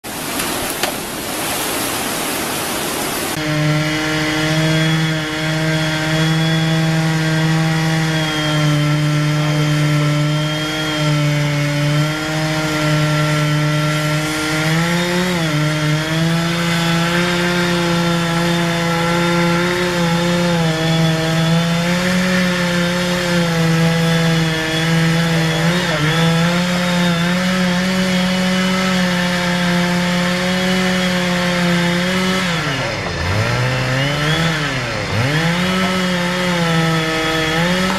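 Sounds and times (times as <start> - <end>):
chainsaw sawing wood: 0.0 - 37.9.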